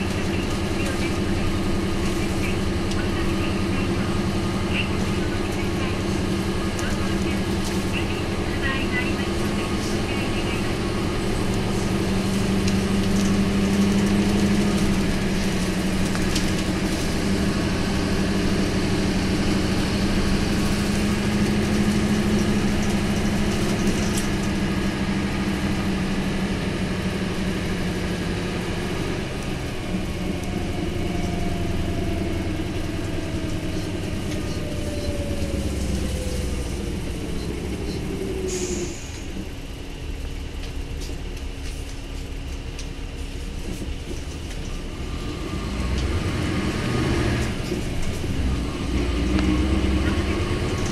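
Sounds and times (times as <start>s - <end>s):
diesel bus engine running: 0.0s - 50.9s.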